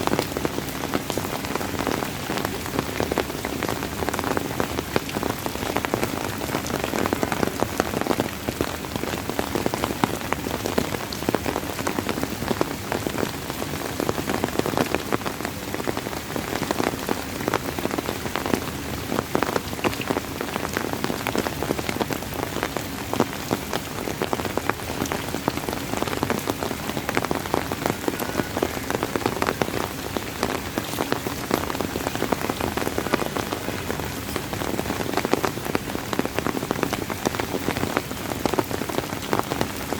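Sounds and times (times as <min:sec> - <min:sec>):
rain patter on surface: 0:00.0 - 0:39.9.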